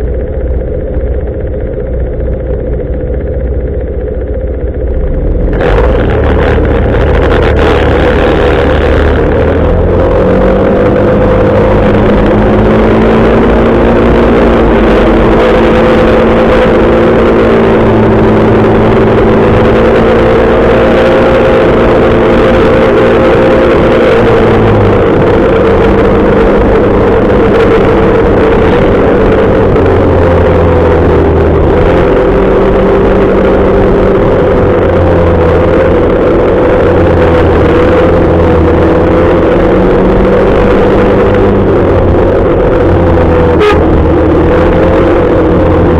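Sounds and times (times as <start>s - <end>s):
motorcycle engine running: 0.0s - 45.9s
steady rushing noise: 0.0s - 45.9s.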